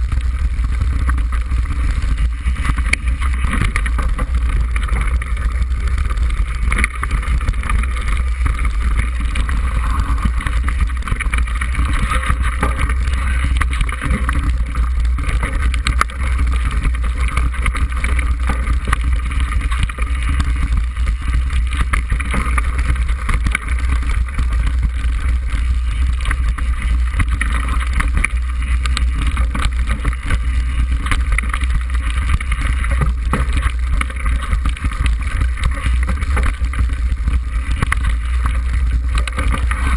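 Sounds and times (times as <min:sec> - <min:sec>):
bike knocking and rattling: 0:00.0 - 0:39.9.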